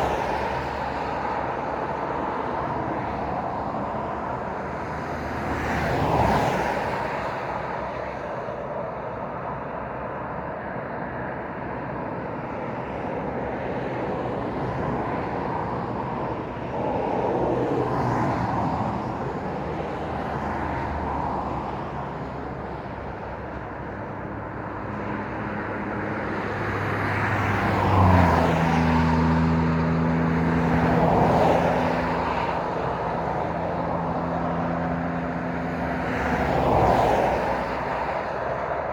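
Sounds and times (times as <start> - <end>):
cars and lorries passing: 0.0 - 38.9.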